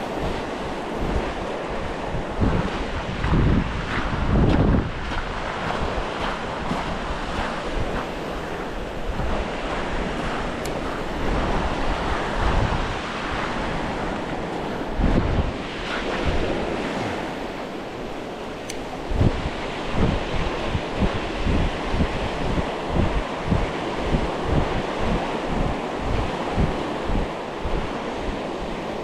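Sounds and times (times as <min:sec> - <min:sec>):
sea surf washing on shore: 0:00.0 - 0:29.0
wind buffeting microphone: 0:00.0 - 0:29.0.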